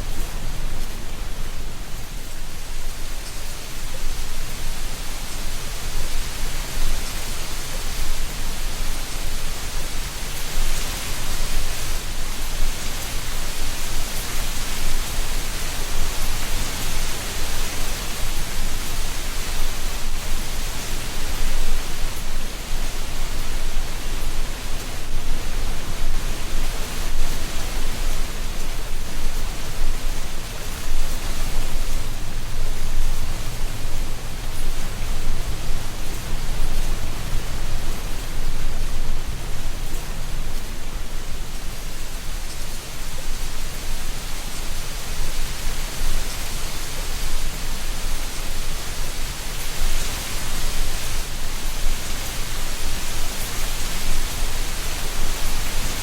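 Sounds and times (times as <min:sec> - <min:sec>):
wind rustling dry leaves: 0:00.0 - 0:56.0.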